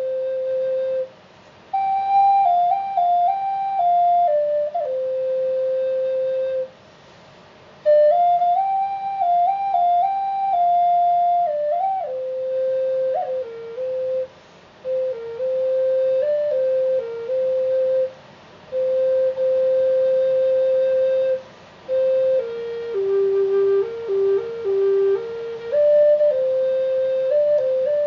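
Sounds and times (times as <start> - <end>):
solo flute slow melody: 0.0 - 6.8, 7.8 - 28.0.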